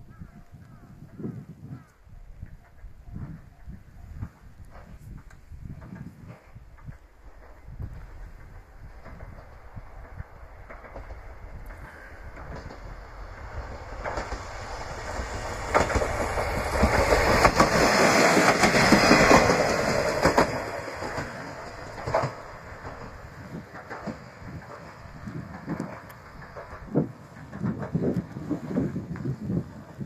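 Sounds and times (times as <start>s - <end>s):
train rumble: 0.0s - 30.0s
wheel clacks over rail joints: 4.6s - 29.5s.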